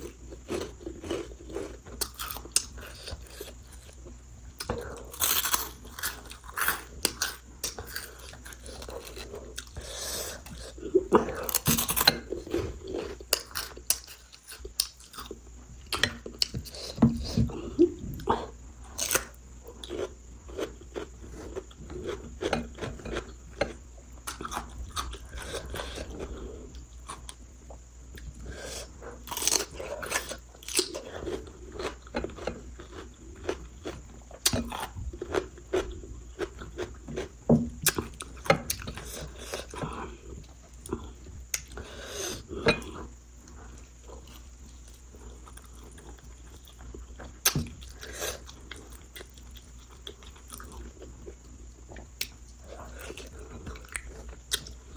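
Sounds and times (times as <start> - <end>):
person chewing and crunching food: 0.0 - 54.9.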